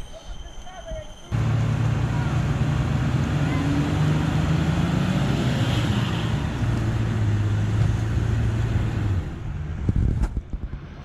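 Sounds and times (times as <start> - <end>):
engine running at high revs: 1.3 - 11.0.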